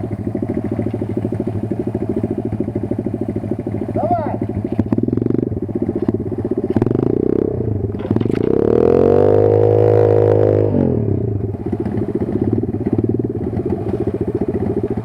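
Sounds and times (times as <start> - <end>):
motorbike engine idling and revving: 0.0 - 15.0.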